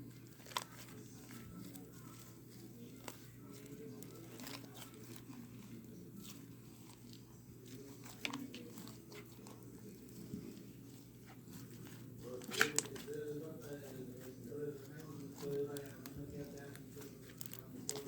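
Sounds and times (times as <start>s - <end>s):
slime handling clicks and crinkles: 0.1s - 14.0s, 14.7s - 18.0s.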